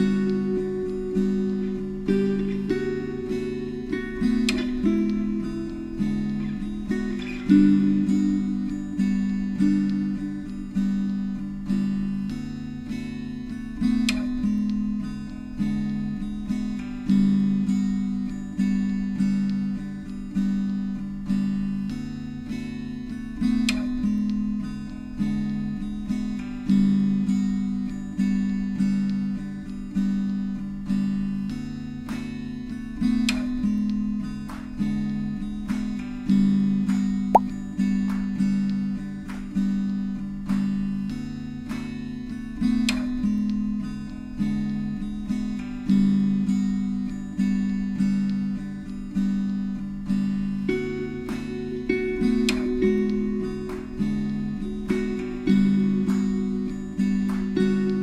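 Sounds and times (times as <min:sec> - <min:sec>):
acoustic guitar plucking chords: 0:00.0 - 0:58.0.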